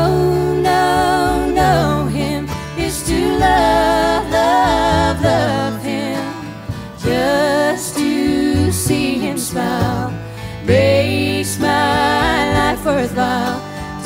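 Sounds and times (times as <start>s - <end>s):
guitar: 0.0s - 14.0s
steady bass notes: 0.0s - 14.0s.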